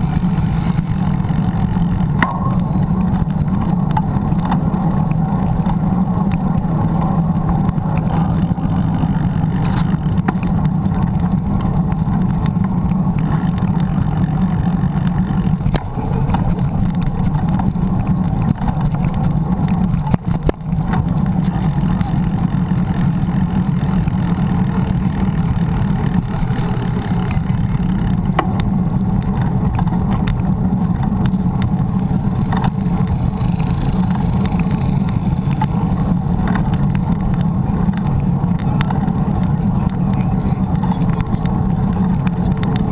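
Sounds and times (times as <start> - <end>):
bicycle road noise: 0.0 - 42.9
wind noise on microphone: 0.0 - 42.9.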